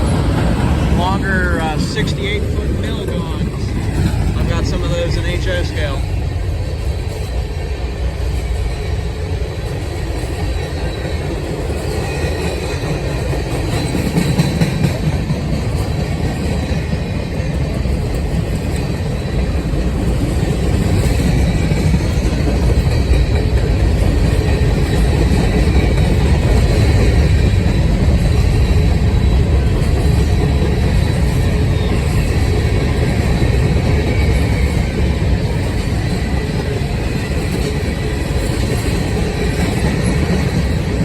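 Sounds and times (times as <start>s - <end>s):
clickety-clack of wheels: 0.0s - 41.0s
train wheels rumbling on rail: 0.0s - 41.0s.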